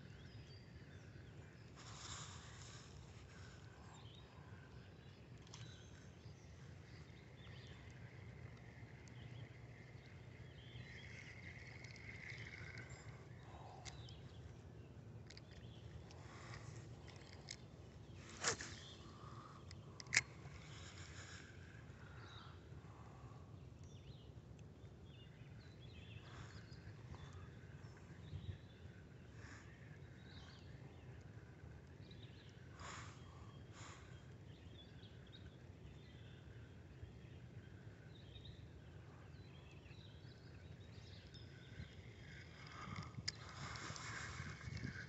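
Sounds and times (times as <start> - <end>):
low steady background noise: 0.0 - 45.0.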